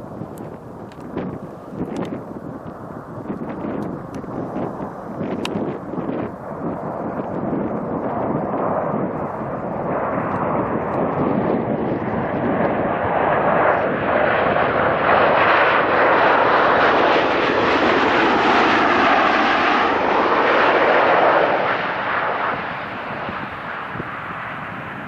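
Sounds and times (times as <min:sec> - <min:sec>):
low-flying aircraft roar: 0:00.0 - 0:25.0.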